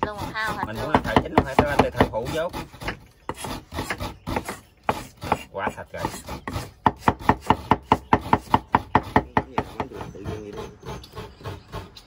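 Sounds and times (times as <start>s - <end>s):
knife chopping on cutting board: 0.1s - 10.1s.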